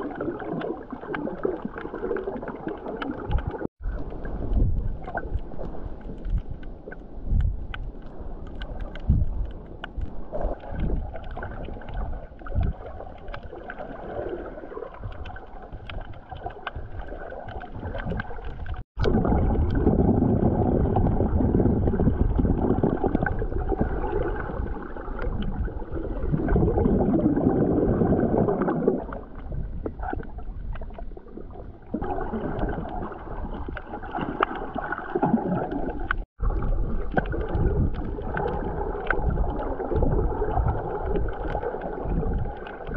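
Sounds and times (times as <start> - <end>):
underwater water sloshing and gurgling: 0.0 - 42.9.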